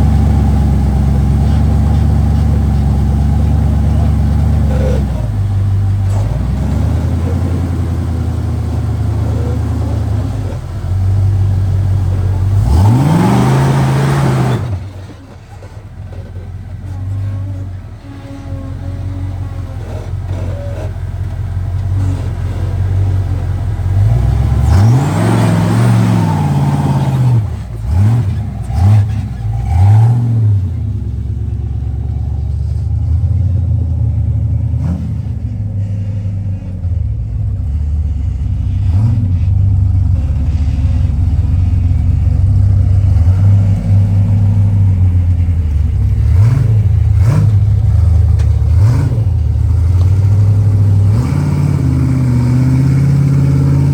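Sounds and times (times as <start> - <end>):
engine revving: 0.0 - 53.9.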